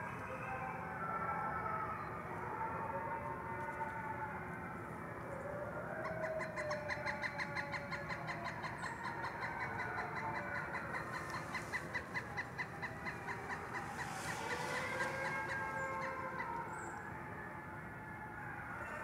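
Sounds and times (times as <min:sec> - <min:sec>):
wolves howling: 0:00.0 - 0:19.0.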